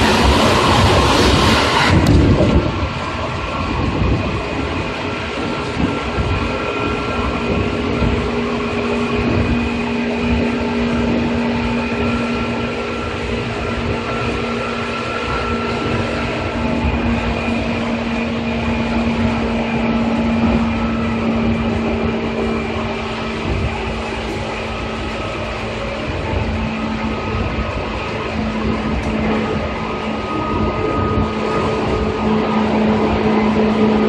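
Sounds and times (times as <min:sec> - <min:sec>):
electric motor hum: 0:00.0 - 0:34.0
loud rush: 0:00.0 - 0:34.0
train wheels rumbling on rail: 0:00.0 - 0:34.0.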